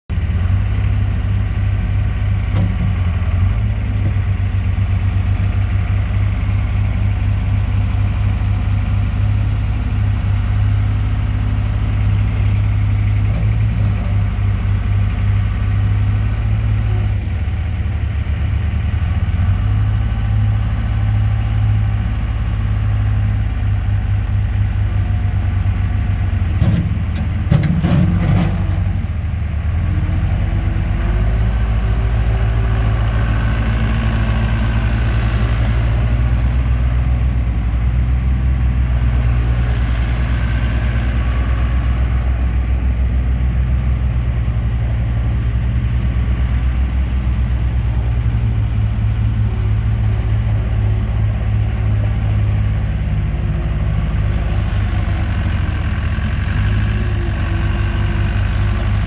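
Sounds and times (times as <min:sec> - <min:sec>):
diesel engine running: 0:00.1 - 0:59.0.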